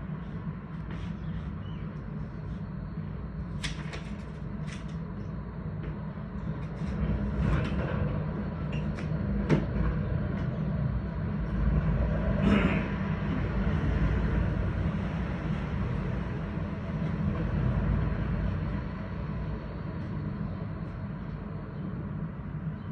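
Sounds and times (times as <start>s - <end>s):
street traffic rumble: 0.0s - 22.9s.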